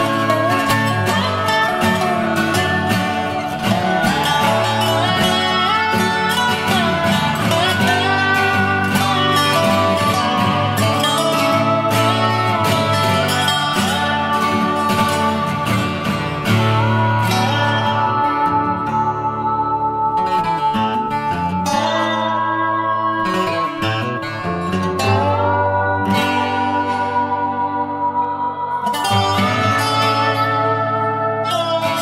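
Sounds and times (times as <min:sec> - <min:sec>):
guitar-led background music: 0:00.0 - 0:32.0.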